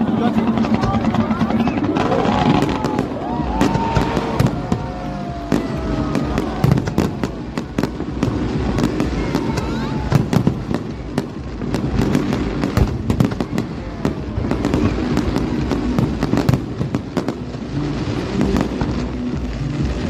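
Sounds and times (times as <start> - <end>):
fireworks bangs and crackles: 0.0 - 20.0
steady low rumble: 0.0 - 20.0.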